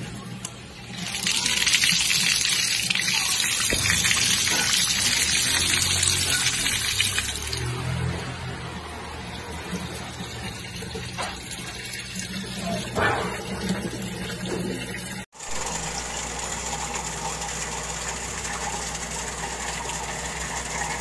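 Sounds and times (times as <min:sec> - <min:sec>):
water gushing from a pipe: 0:00.9 - 0:08.2, 0:08.8 - 0:21.0.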